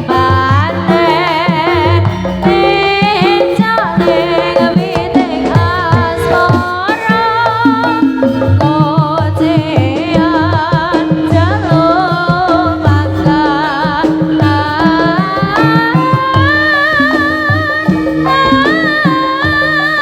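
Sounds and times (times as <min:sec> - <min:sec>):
busy low drumming: 0:00.0 - 0:20.0
melody with wavering vibrato: 0:00.0 - 0:20.0.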